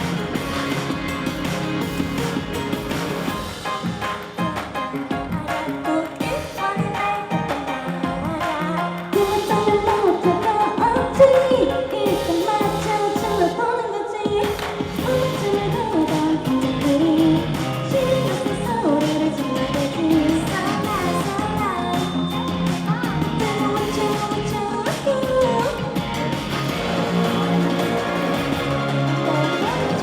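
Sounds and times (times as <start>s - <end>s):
live pop-rock band: 0.0s - 30.0s
woman singing: 5.0s - 28.0s, 28.6s - 30.0s.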